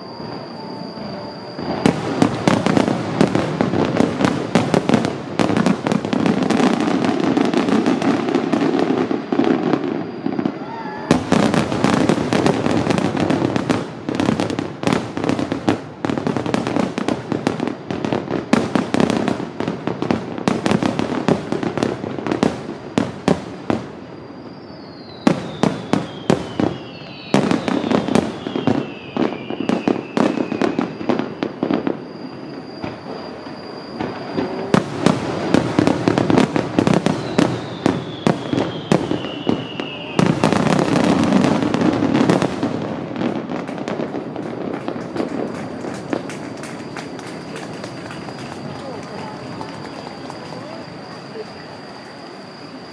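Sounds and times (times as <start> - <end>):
falling firework whistles: 0.0 - 52.9
fireworks bursting with loud bangs: 0.0 - 52.9.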